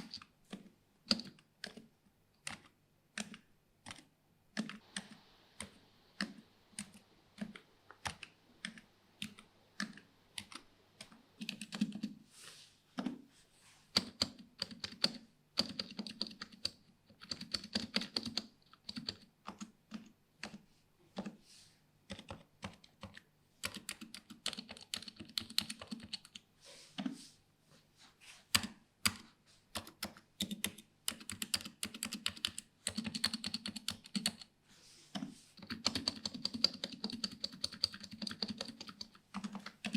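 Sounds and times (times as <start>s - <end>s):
keyboard typing: 0.0s - 12.2s, 13.9s - 21.4s, 22.0s - 27.1s, 28.5s - 39.9s.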